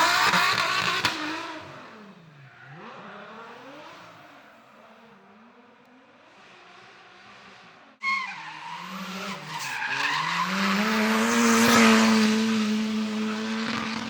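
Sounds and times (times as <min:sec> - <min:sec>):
car engine at high revs: 0:00.0 - 0:08.0, 0:08.7 - 0:14.0.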